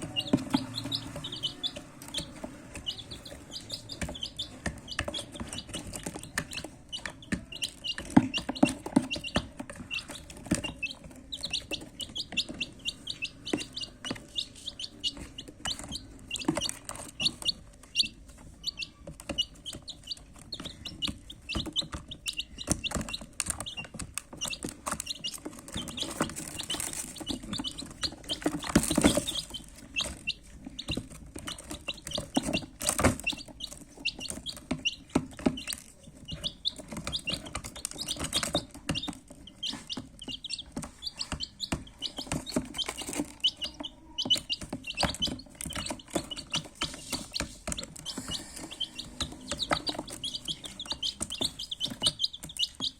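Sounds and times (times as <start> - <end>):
baby chicks peeping: 0.0 - 52.9
knocks and taps: 0.0 - 52.9.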